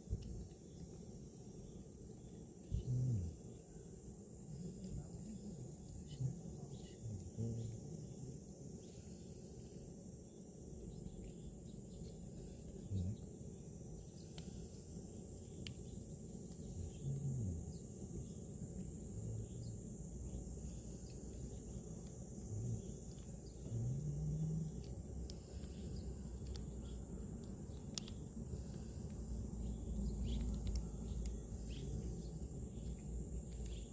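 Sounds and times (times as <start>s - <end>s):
insects chirring: 0.0s - 33.9s.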